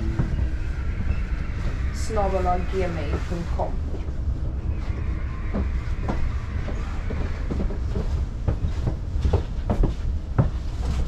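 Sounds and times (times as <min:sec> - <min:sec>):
train carriage rumbling: 0:00.0 - 0:11.0.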